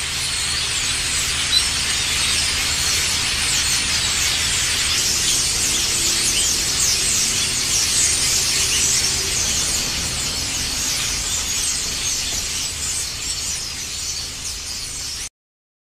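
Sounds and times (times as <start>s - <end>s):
flock of birds chirping: 0.0s - 15.3s.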